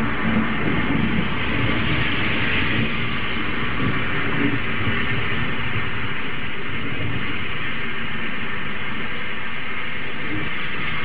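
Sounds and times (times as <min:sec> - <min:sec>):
low uneven thunder rumble: 0:00.0 - 0:11.0
rushing rain noise: 0:00.0 - 0:11.0.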